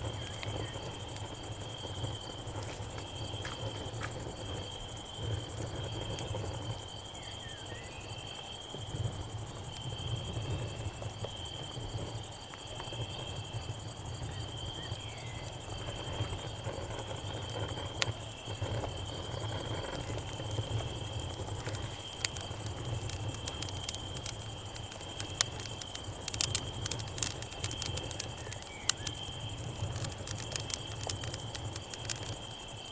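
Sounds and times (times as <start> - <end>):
insects droning and trilling: 0.0 - 32.9
campfire crackling and popping: 0.1 - 6.8, 9.7 - 32.9.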